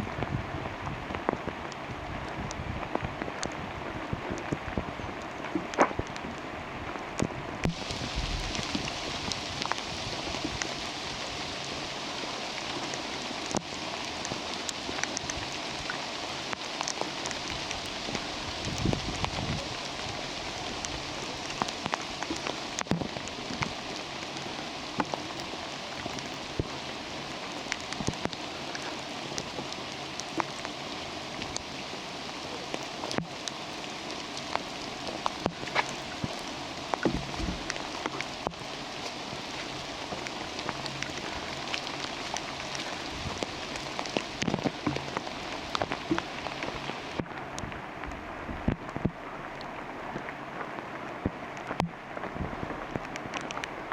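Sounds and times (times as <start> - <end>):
rain drops pattering: 0.0 - 53.9.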